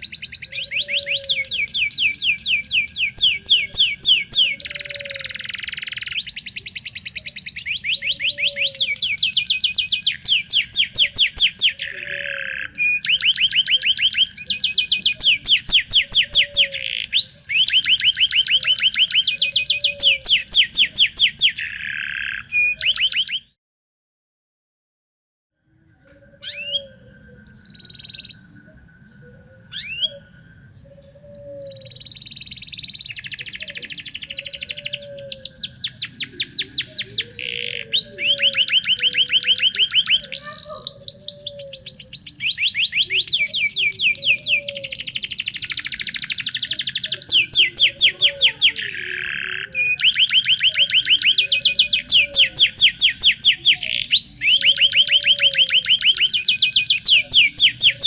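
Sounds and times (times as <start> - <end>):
canary singing trills: 0.0 - 23.6, 25.8 - 58.0.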